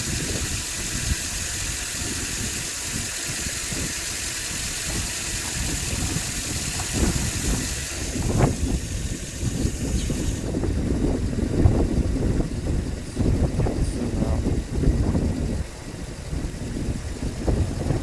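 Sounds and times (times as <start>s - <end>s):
engine idling rough with misfire: 0.0s - 18.0s.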